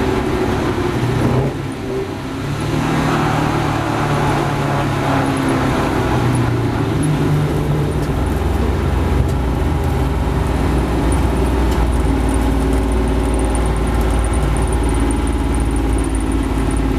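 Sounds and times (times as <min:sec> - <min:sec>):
car engine running: 0:00.0 - 0:16.9.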